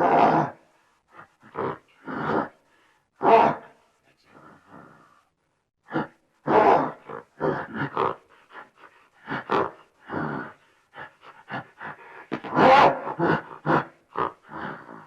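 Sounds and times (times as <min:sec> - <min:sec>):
animal grunting and growling: 0:00.0 - 0:02.6, 0:03.2 - 0:03.8, 0:04.4 - 0:05.2, 0:05.9 - 0:15.0.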